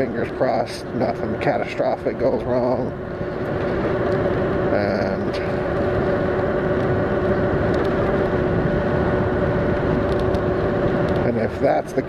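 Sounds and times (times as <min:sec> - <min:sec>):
electric motor whine: 0:00.0 - 0:12.0
wind and road noise: 0:00.0 - 0:12.0.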